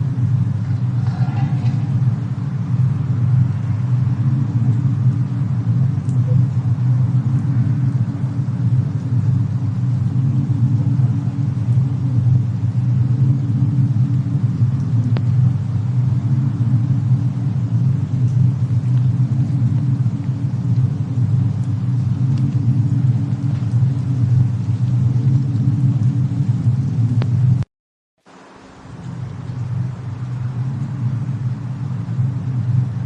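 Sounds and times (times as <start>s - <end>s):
low rumble: 0.0s - 27.7s, 28.8s - 33.0s
faint fire crackle: 0.0s - 33.0s.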